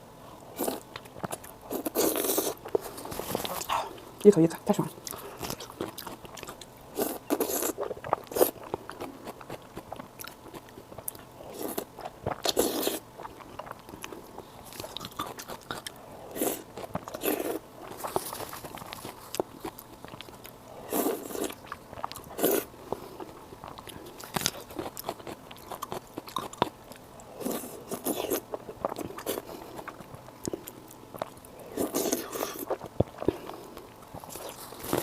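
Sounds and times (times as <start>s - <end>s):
wet chewing and biting: 5.0s - 35.0s.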